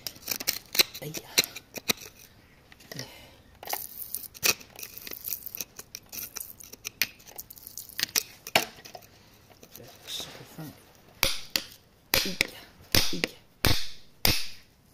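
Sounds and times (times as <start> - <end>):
hand tool scraping rock: 0.0 - 13.4.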